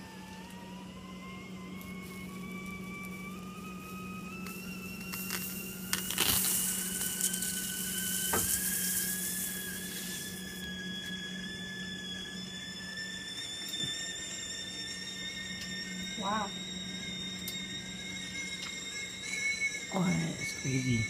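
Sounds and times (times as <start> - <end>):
whistle-like tone rising: 0.0 - 21.0
hot knife blade sizzling: 1.7 - 21.0.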